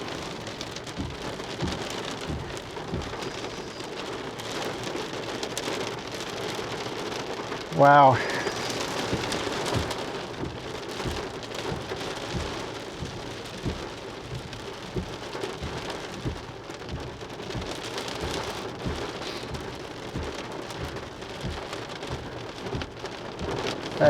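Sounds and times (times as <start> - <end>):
hail and rain pelting: 0.0 - 24.0.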